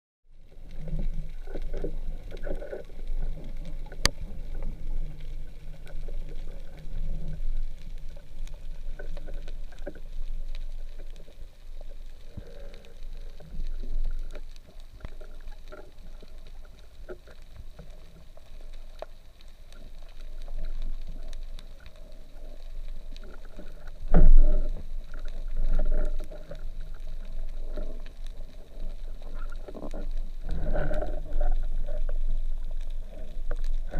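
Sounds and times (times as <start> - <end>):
underwater rumble of moving water: 0.2 - 33.9
clicks and crackles: 0.4 - 33.9.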